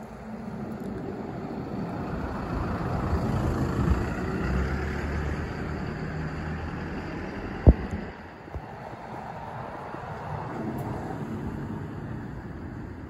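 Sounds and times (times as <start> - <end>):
motor vehicle passing: 1.1 - 11.8.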